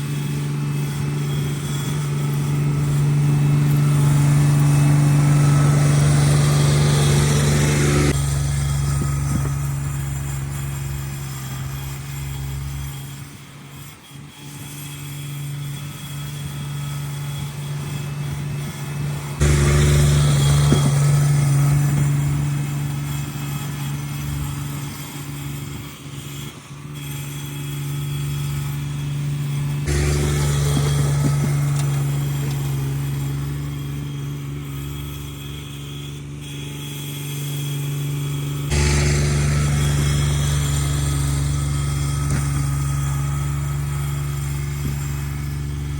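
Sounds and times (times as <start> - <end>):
garden tractor engine running: 0.0 - 45.9.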